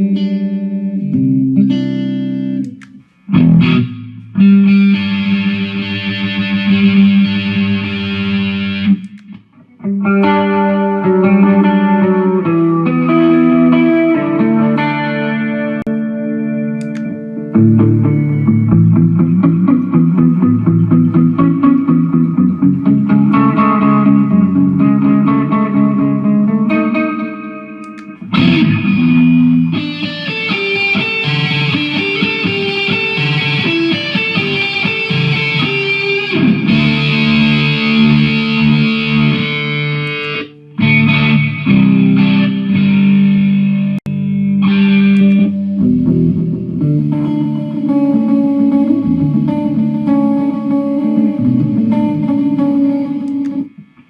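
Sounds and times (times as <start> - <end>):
electric guitar with effects: 0.0 - 54.0.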